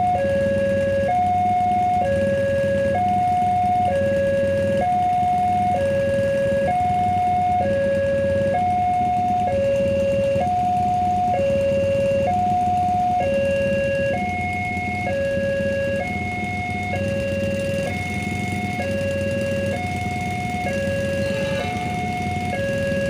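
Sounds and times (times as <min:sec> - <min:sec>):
two-tone level-crossing alarm: 0:00.0 - 0:23.0.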